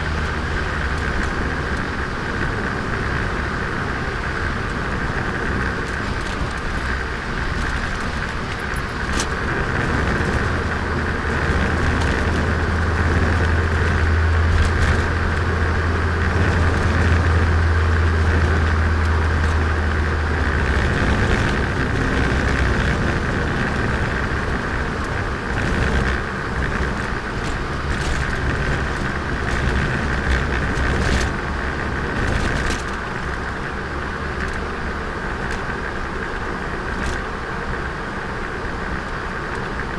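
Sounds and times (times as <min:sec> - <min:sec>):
car engine drone: 0:00.0 - 0:39.9
road and tyre noise: 0:00.0 - 0:39.9.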